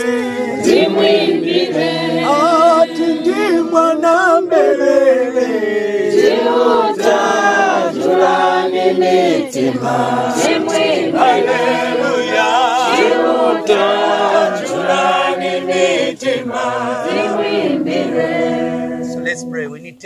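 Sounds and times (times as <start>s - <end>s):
group singing a hymn unaccompanied: 0.0s - 19.8s.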